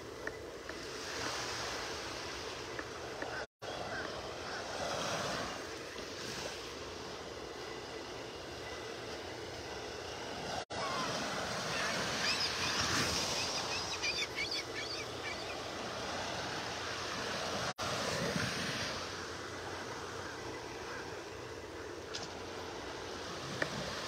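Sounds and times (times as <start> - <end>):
small waves breaking on beach: 0.0 - 24.0.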